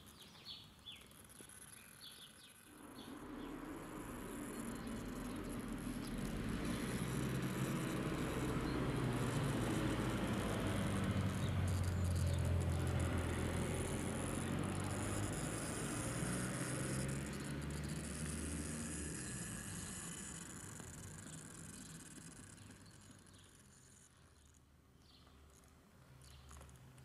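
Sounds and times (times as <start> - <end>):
tires scrabbling on stone: 0.0 - 27.0
electric motor whirring: 0.8 - 24.7.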